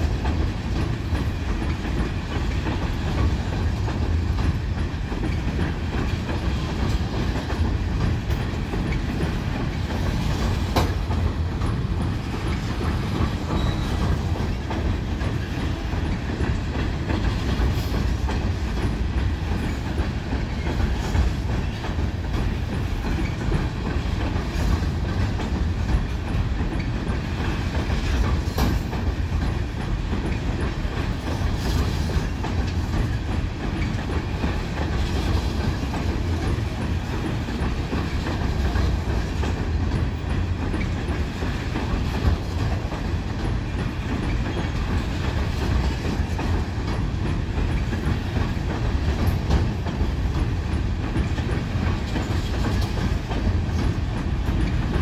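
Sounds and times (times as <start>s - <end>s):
train rumbling over steel bridge: 0.0s - 55.0s
wheels clicking over rail joints: 0.0s - 55.0s.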